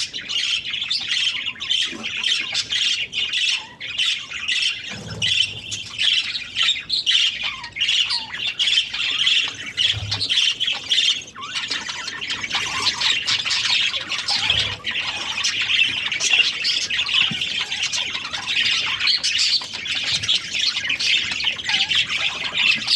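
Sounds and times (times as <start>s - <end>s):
budgerigars chirping and chattering: 0.0s - 22.9s.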